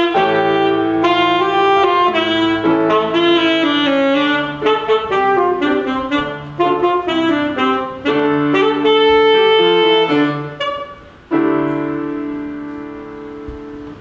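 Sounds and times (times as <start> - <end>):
alto saxophone melody: 0.0 - 14.0
piano accompaniment: 0.0 - 14.0.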